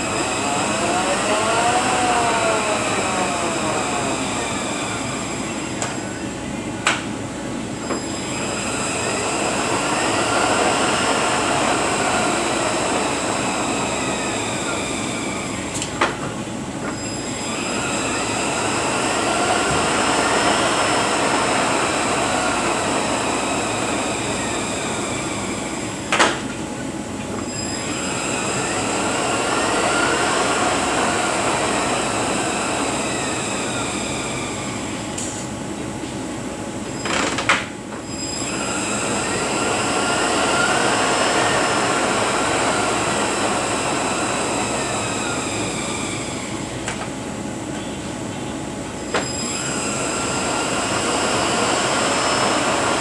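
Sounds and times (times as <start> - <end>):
truck transmission gear whine: 0.0 - 53.0.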